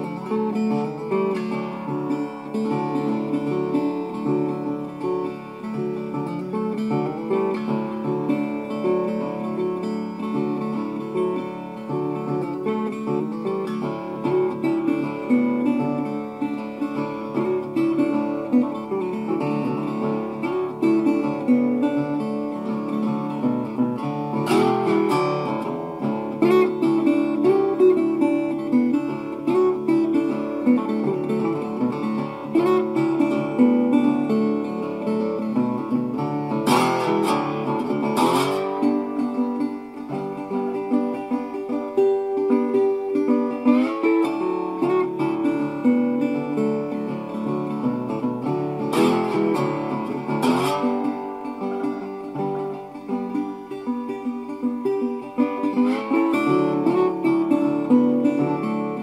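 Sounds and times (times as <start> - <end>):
fingerpicked acoustic guitar: 0.0 - 59.0.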